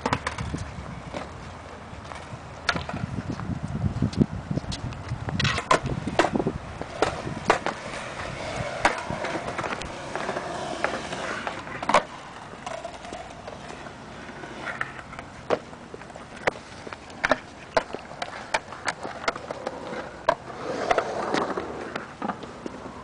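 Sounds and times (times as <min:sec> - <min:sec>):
skateboard clacking on ground: 0:00.0 - 0:23.0
skateboard wheels rolling on concrete: 0:00.0 - 0:23.0.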